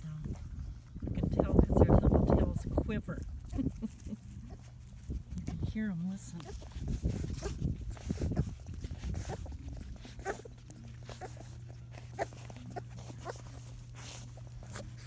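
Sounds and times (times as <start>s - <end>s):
puppies suckling: 0.0s - 15.0s
steady low hum: 0.0s - 15.0s.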